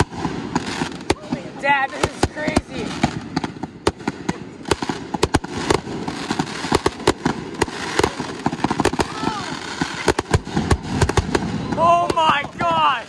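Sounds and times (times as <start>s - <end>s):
firework bangs: 0.0s - 13.0s
firework crackling: 0.0s - 13.0s.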